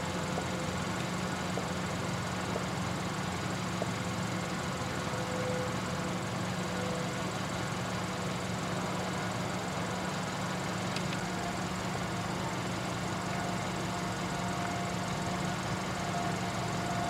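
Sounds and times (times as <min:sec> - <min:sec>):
distant diesel train rumble: 0:00.0 - 0:17.0.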